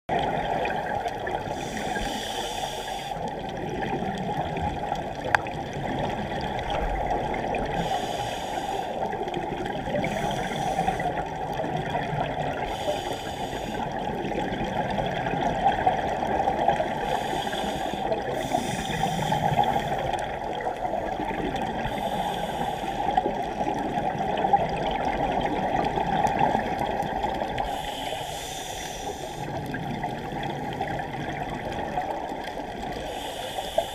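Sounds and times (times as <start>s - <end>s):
muffled water rush: 0.1s - 33.9s
regulator hiss and bubbling: 0.1s - 33.9s.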